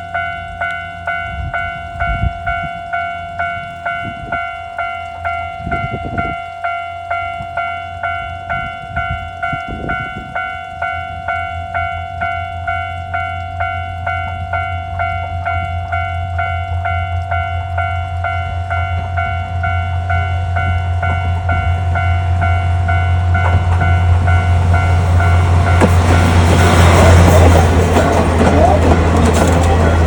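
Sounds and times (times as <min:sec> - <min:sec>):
low train rumble: 0:00.0 - 0:30.0
railroad crossing bell clanging: 0:00.0 - 0:30.0.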